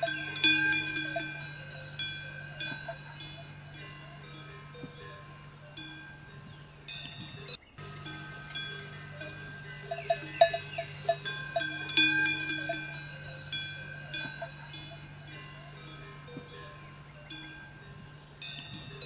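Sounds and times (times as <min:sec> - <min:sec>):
bells clinking and ringing: 0:00.0 - 0:19.0
steady low hum: 0:00.0 - 0:19.0.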